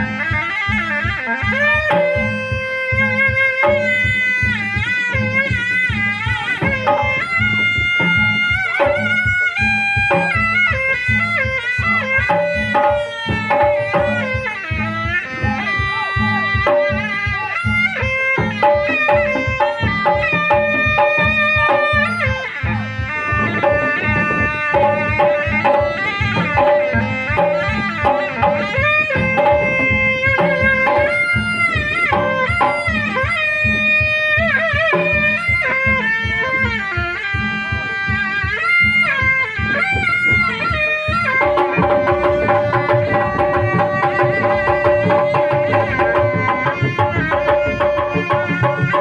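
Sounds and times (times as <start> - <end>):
hand drums beating: 0.0 - 49.0
reed shawm melody: 0.0 - 49.0.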